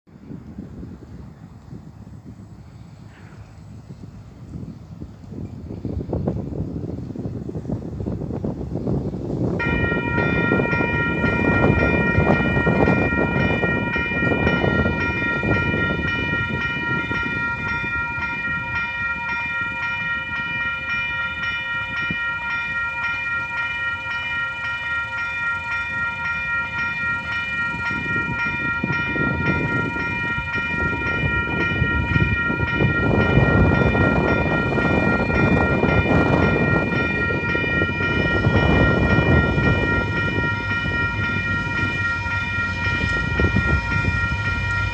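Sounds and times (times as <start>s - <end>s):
level crossing warning bells: 8.4s - 44.9s.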